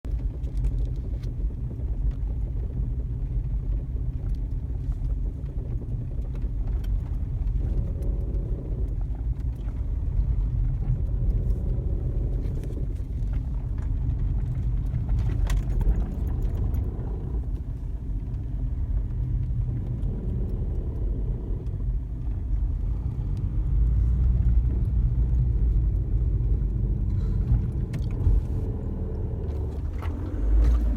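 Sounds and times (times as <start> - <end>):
diesel engine droning rumble: 0.0 - 30.9.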